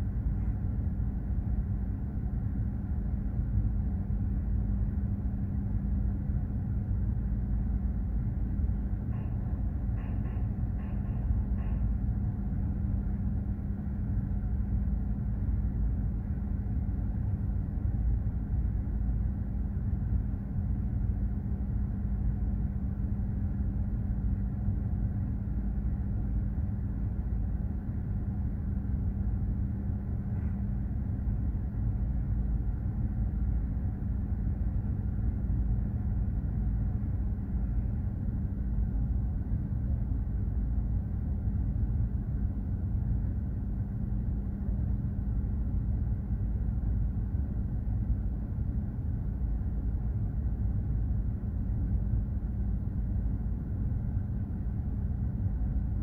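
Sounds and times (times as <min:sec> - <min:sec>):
ship engine rumble and hum: 0:00.0 - 0:56.0.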